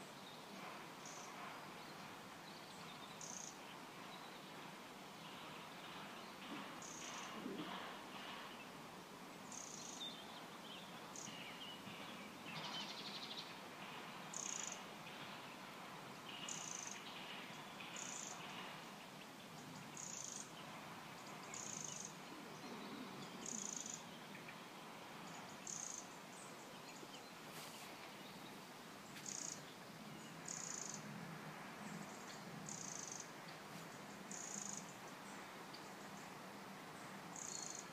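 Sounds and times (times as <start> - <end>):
steady hiss: 0.0 - 37.9.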